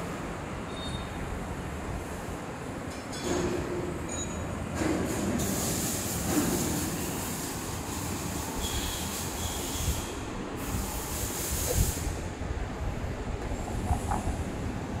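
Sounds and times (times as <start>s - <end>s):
machinery rumble and hiss: 0.0s - 15.0s.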